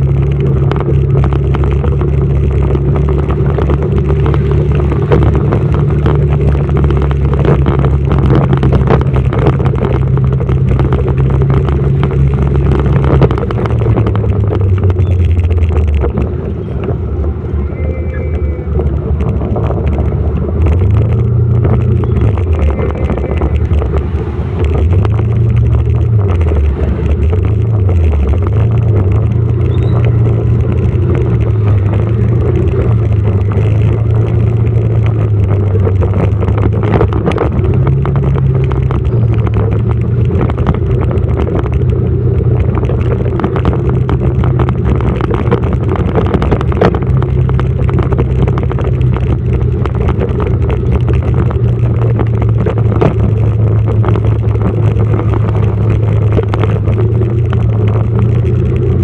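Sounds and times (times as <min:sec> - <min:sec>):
motorcycle engine revving: 0:00.0 - 0:59.0
rushing noise: 0:00.0 - 0:59.0.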